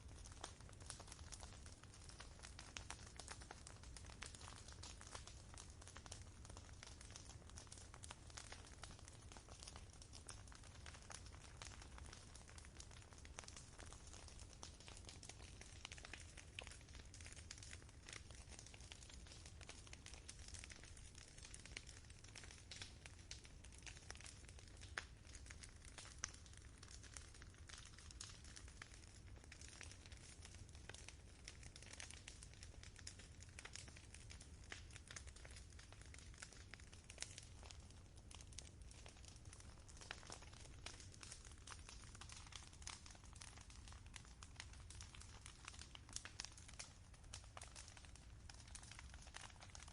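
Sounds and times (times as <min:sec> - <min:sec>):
faint campfire crackling: 0:00.0 - 0:49.9.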